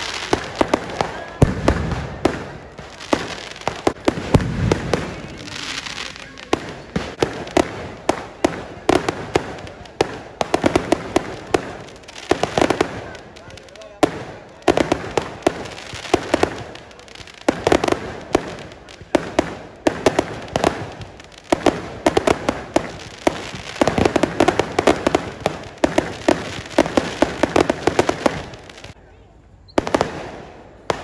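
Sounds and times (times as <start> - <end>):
fireworks bangs and crackling: 0.0 - 29.0, 29.7 - 31.0.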